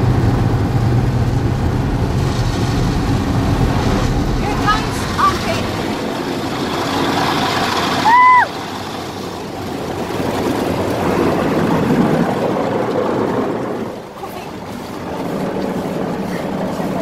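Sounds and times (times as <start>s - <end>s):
car wash brushes and spray: 0.0s - 17.0s.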